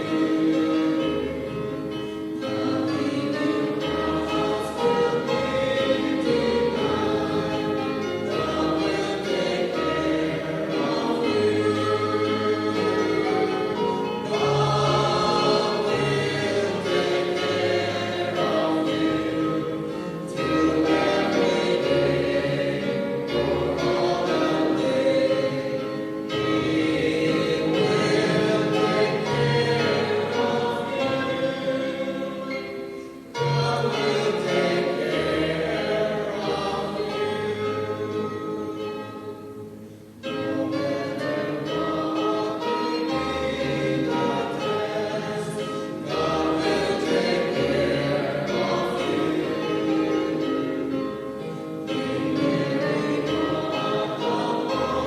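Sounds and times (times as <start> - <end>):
group singing worship song: 0.0 - 39.4, 40.2 - 55.0
low musical accompaniment: 0.0 - 55.0.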